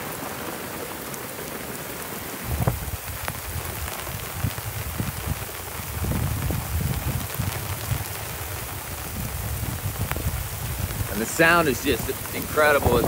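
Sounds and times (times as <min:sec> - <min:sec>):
heavy rain on water: 0:00.0 - 0:13.0
low rumbling buffets: 0:02.4 - 0:13.0.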